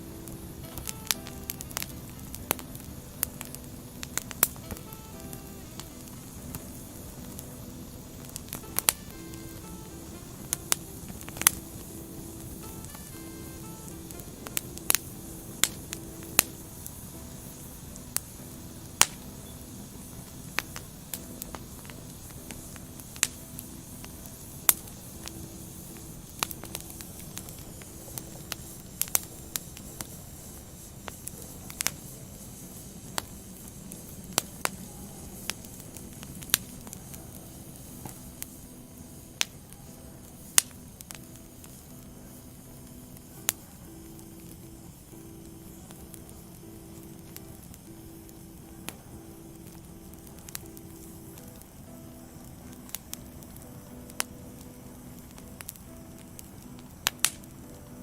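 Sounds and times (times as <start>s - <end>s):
fire hissing: 0.0s - 58.0s
logs crackling and popping: 0.0s - 58.0s.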